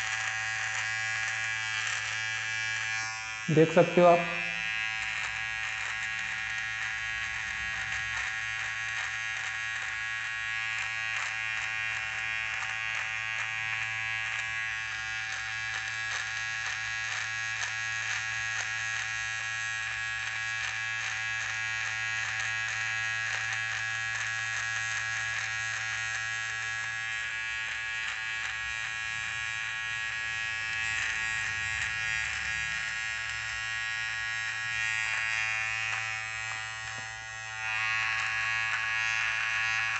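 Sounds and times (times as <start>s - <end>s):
electric beard trimmer buzzing: 0.0s - 39.9s.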